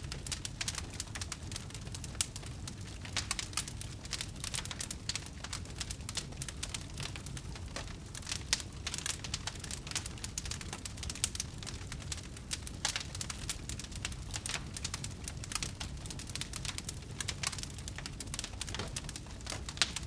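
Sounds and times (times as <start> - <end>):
low rumble of flames: 0.0 - 20.0
wood fire crackling with pops: 0.0 - 20.0.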